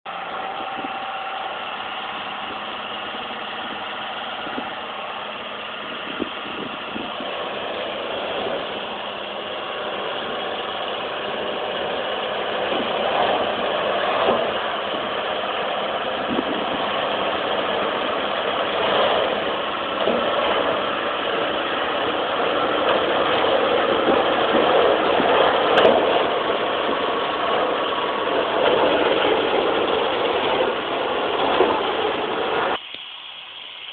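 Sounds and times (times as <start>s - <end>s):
tractor engine running: 0.0s - 33.9s
bale shredder chopping: 2.1s - 32.8s.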